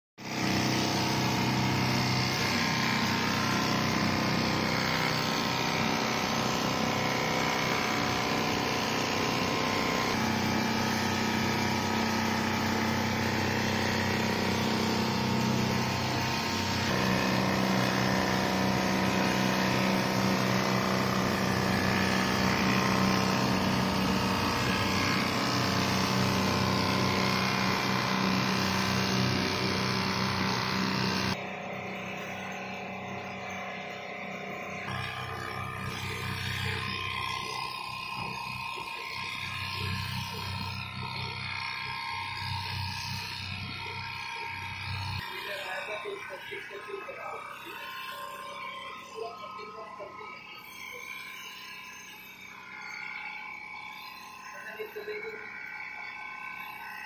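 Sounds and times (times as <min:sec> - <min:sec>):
quilting machine humming: 0:00.2 - 0:57.0.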